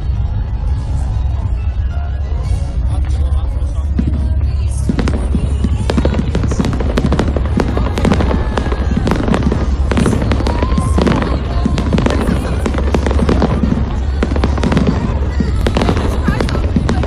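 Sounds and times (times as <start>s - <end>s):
fireworks crackling and popping: 0.0s - 17.0s
low rumble: 0.0s - 17.0s.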